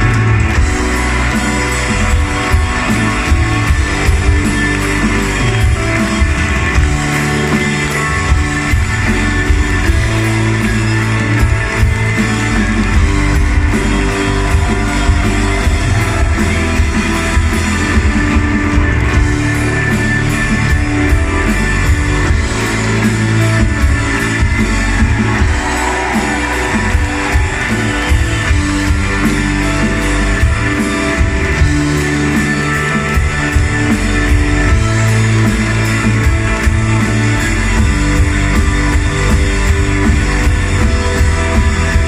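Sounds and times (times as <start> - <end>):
rock band playing loudly: 0.0 - 42.0.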